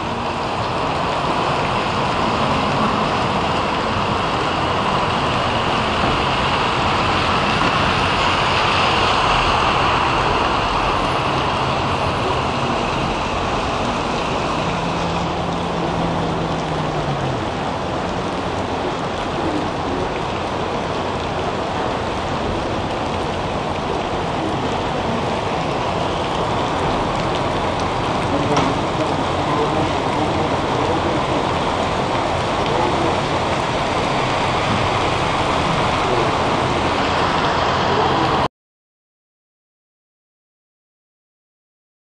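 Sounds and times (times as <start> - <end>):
heavy rain on flooded street: 0.0 - 38.5.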